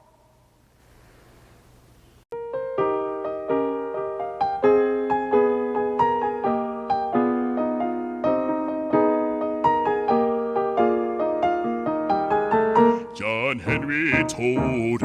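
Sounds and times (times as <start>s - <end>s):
piano chords: 2.3s - 15.0s.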